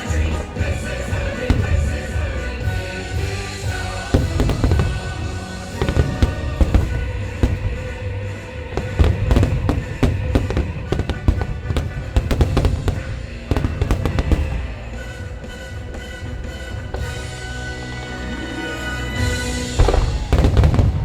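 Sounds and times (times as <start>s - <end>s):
fireworks bursting: 0.0s - 21.0s
loud show music: 0.0s - 21.0s.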